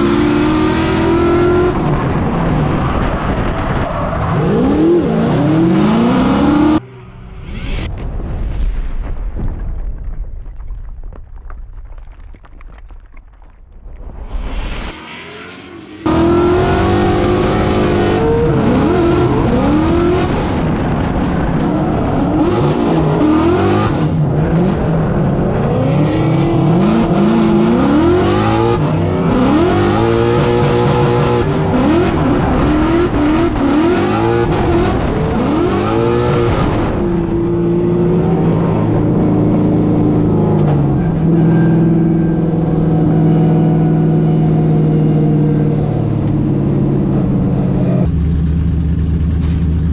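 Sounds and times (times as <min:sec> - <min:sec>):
car engine revving: 0:00.0 - 0:08.7, 0:14.3 - 0:49.9.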